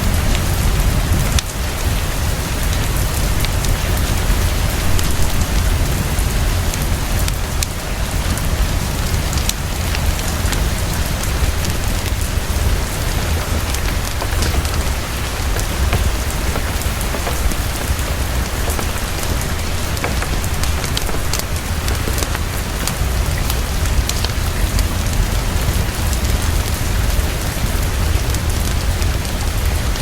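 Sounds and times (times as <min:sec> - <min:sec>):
heavy rainfall: 0:00.0 - 0:30.0.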